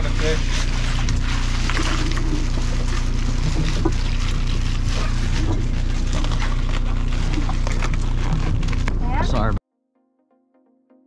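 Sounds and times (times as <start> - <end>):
boat engine humming: 0.0 - 9.6
water noise: 0.0 - 9.6
wind: 0.0 - 9.6.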